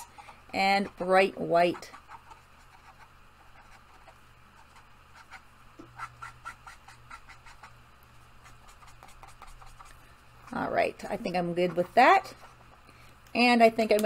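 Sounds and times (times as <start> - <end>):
marker squeaking on paper: 0.0 - 7.8, 8.4 - 12.7
low steady hum: 0.0 - 14.0.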